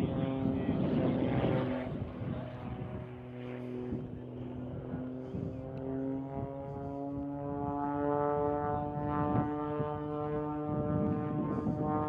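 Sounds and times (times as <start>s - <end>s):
propeller aircraft engine droning: 0.0s - 12.0s
wind noise on microphone: 0.0s - 12.0s.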